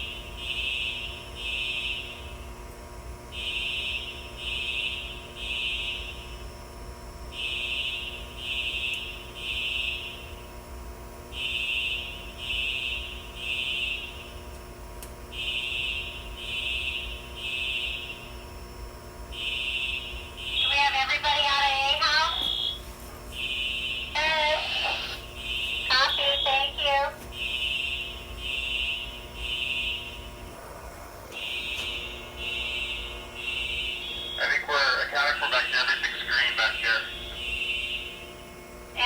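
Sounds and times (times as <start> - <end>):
fire alarm horns: 0.0 - 39.0.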